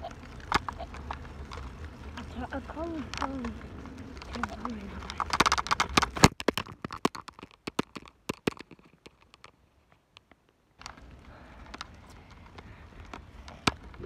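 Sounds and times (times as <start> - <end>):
low background rumble: 0.0 - 14.0
microphone handling clicks and crackles: 0.0 - 14.0.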